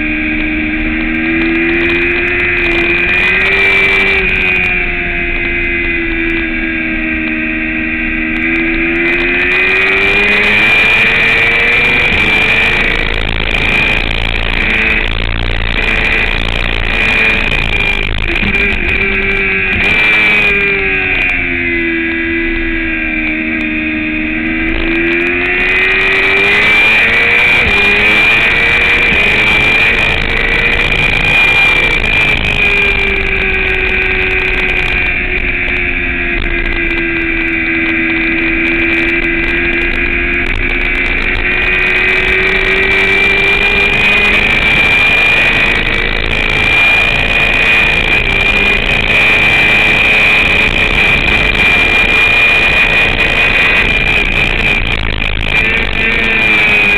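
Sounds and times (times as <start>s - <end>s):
motorcycle engine revving: 0.0s - 56.9s
steady high whine: 0.0s - 56.9s.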